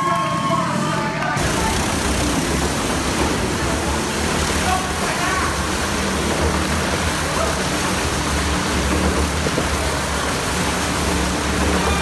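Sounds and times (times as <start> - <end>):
go-kart engine humming: 0.0 - 12.0.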